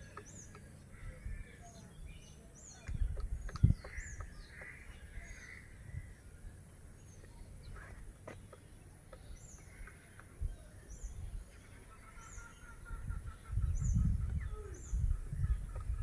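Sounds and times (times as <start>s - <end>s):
birdsong: 0.0s - 16.0s.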